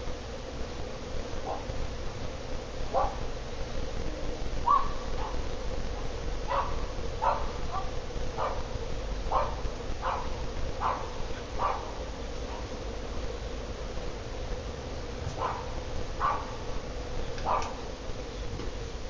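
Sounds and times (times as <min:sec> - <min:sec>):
ceiling fan humming: 0:00.0 - 0:19.0.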